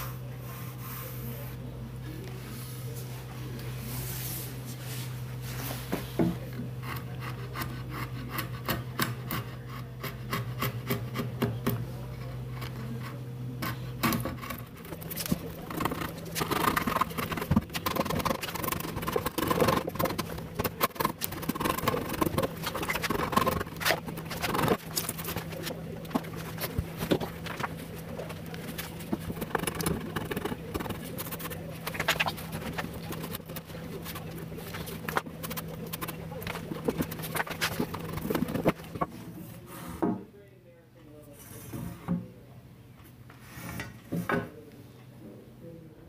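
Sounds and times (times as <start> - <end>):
steady low hum: 0.0 - 43.8.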